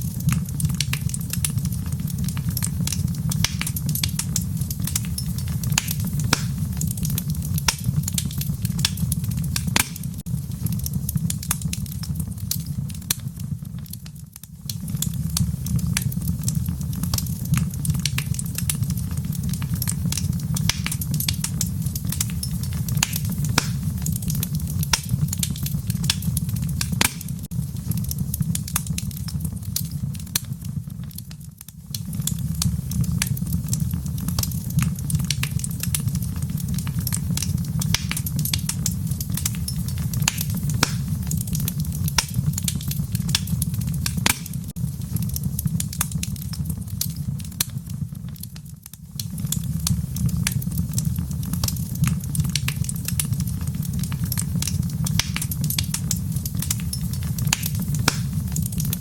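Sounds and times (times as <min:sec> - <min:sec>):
low rumble of flame: 0:00.0 - 0:59.0
wood fire crackling: 0:00.0 - 0:59.0.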